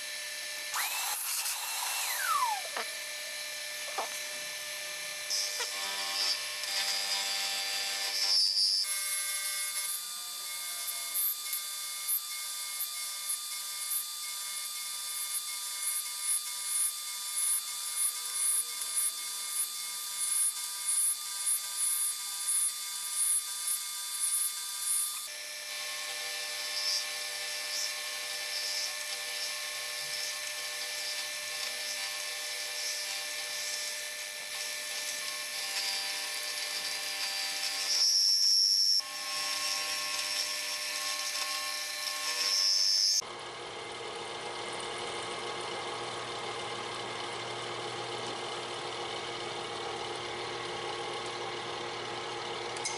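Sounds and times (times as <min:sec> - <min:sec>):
milling machine cutting metal: 0:00.0 - 0:43.2.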